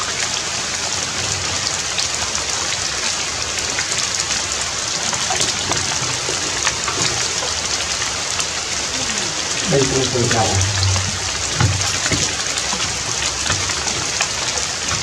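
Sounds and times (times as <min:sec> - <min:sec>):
rain falling on leaves and stone: 0:00.0 - 0:15.0.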